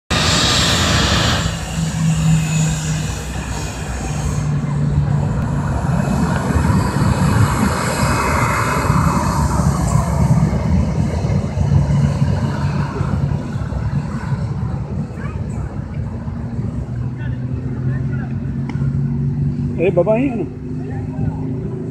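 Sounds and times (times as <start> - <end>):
jet engines running steadily: 0.1 - 21.9.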